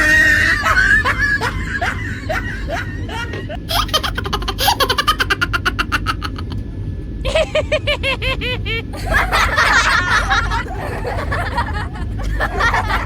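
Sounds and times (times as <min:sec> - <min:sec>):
moving train rumble: 0:00.0 - 0:13.0.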